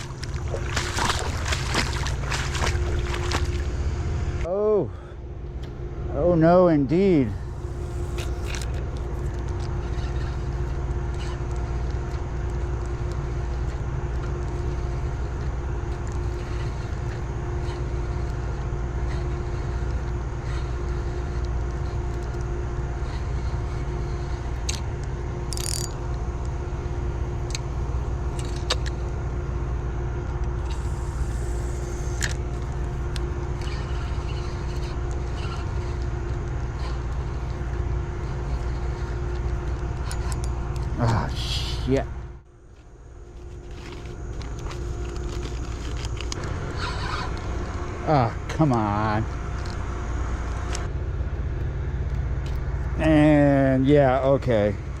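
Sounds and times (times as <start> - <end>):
low droning rumble: 0.0 - 55.0.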